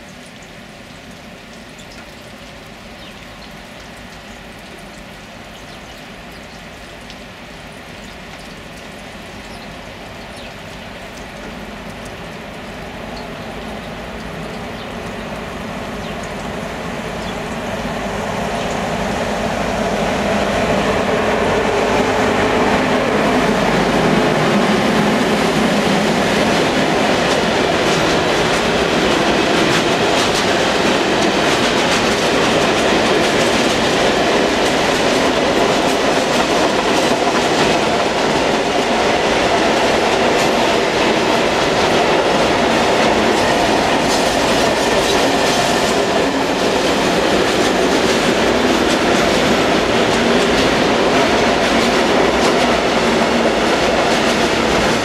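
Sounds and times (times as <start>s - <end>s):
train passing: 2.3s - 55.0s.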